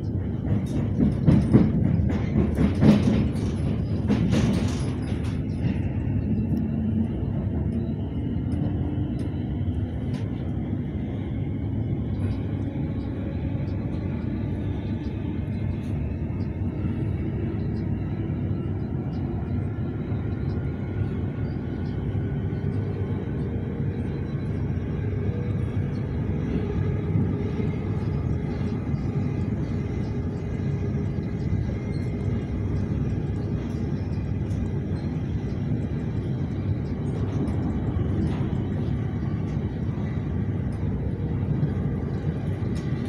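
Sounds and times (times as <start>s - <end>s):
train wheels rumbling on track: 0.0s - 43.0s.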